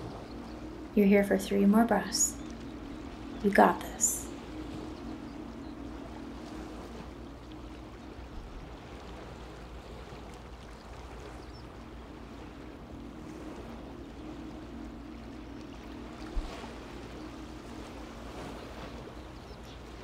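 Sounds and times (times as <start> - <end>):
low steady hum: 0.0 - 20.0
waves washing: 0.0 - 20.0
wind: 0.0 - 20.0.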